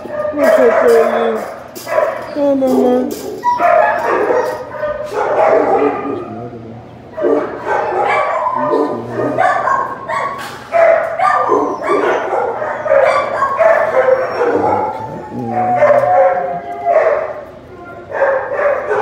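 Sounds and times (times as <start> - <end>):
dog yelping and whining: 0.0 - 10.5, 11.2 - 17.4.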